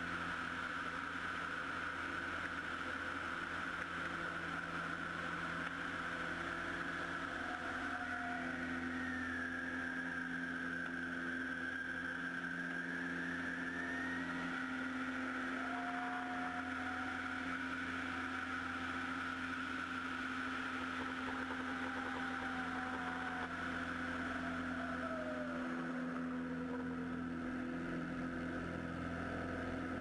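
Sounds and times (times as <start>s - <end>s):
plane engine and propeller: 0.0s - 30.0s.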